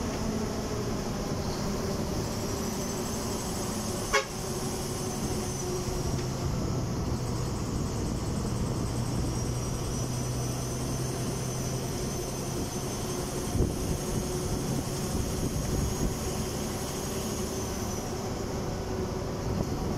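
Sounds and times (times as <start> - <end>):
road and wind noise: 0.0 - 19.9
vehicle engine running: 0.0 - 19.9.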